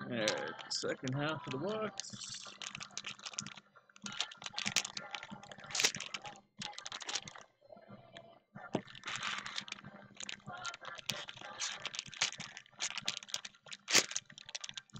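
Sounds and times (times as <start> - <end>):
card packs crinkling: 0.2 - 7.4, 8.8 - 14.9.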